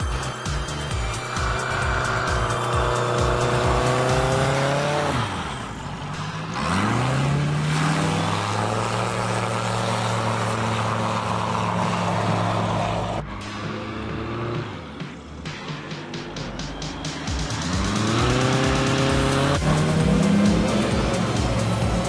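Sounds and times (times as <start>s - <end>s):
light plane engine and propeller: 0.0s - 22.0s.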